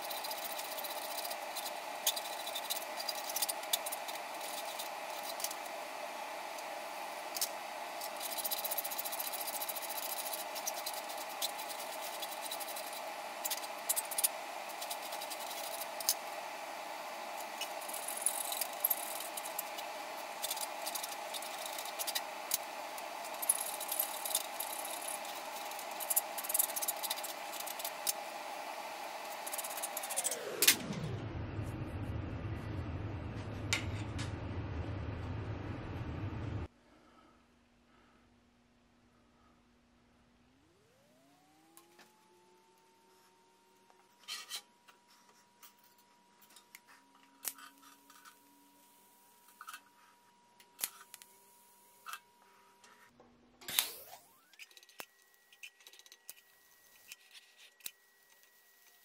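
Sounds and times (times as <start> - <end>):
machine hum: 0.0 - 38.2, 39.2 - 59.0.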